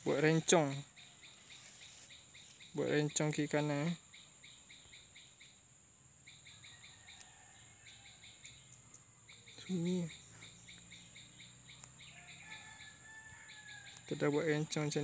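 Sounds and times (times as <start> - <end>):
insect chirps: 0.0 - 15.0
insects droning: 0.0 - 15.0.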